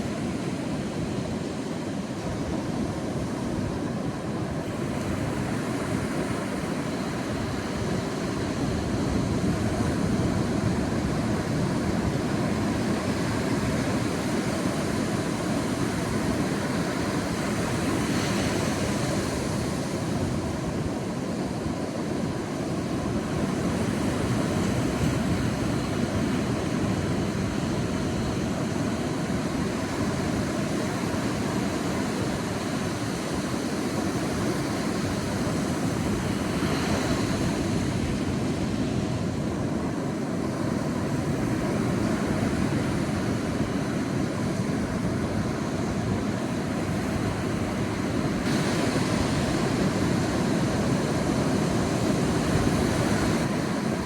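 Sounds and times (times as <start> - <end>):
sea waves breaking on a beach: 0.0 - 54.0.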